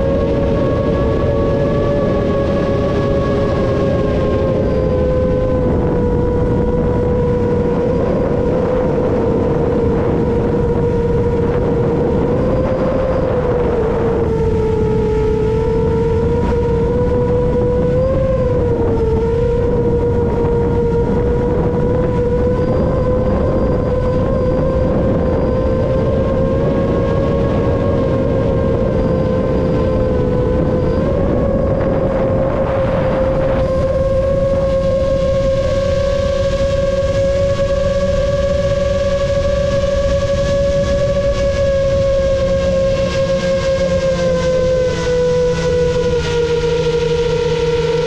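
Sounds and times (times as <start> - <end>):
drone motors buzzing: 0.0 - 48.0.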